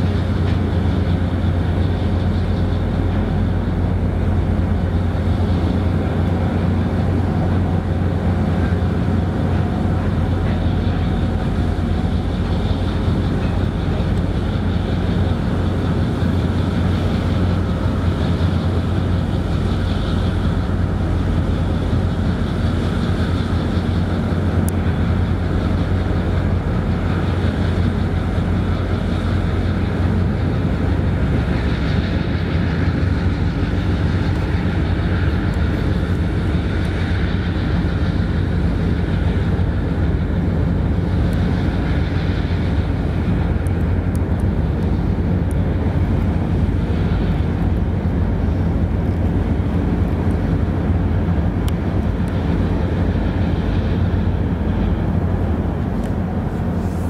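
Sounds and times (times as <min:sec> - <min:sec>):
boat diesel engines droning: 0:00.0 - 0:57.0
waterjet churning water: 0:00.0 - 0:57.0.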